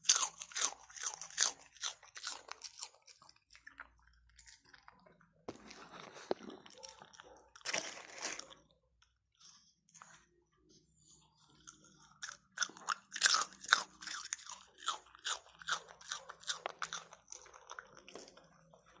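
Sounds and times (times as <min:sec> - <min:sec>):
dog crunching food: 0:00.0 - 0:08.7, 0:11.6 - 0:19.0.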